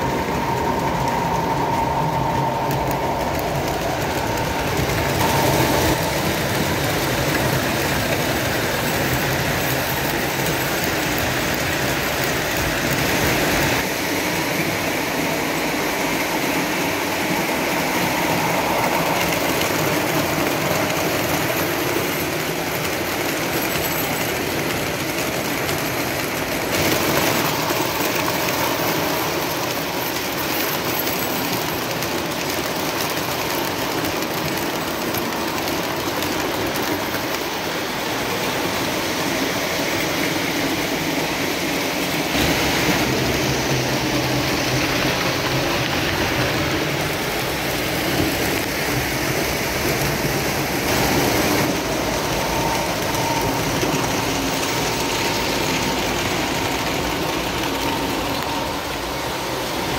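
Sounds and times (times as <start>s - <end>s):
model trains rumbling on metal track: 0.0s - 59.9s.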